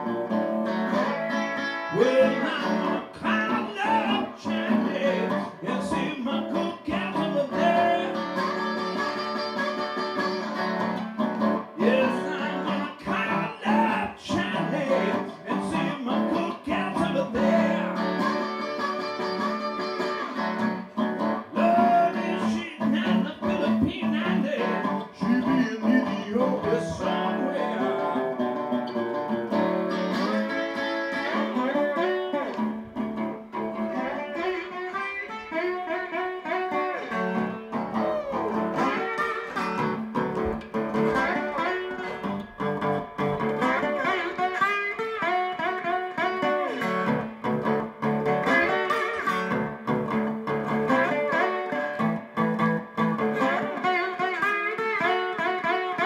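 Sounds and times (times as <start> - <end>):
resonator guitar playing: 0.0 - 56.0.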